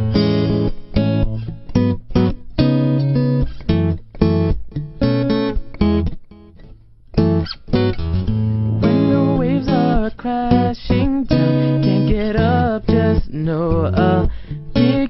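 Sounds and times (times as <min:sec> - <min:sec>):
guitar strumming chords: 0:00.0 - 0:15.0.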